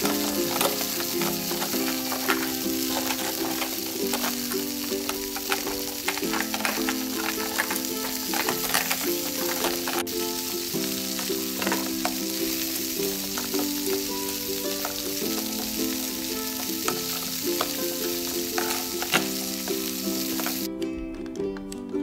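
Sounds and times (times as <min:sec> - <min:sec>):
sizzling frying sound: 0:00.0 - 0:20.8
plastic utensils clicking on pan: 0:00.0 - 0:22.0
plucked tune: 0:00.0 - 0:22.0.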